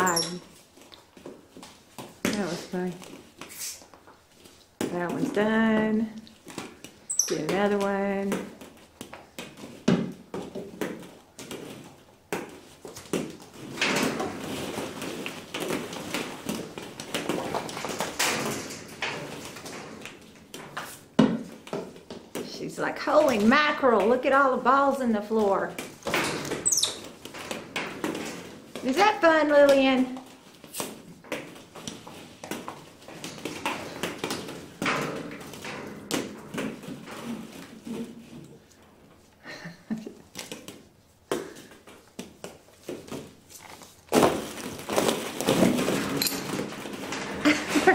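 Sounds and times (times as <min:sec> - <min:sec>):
plastic balls clattering and bouncing: 0:00.0 - 0:47.9.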